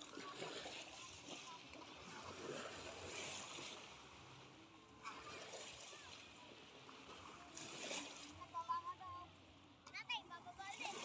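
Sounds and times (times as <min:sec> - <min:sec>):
feet wading through water: 0:00.0 - 0:09.0
small waves lapping at shore: 0:00.0 - 0:11.0.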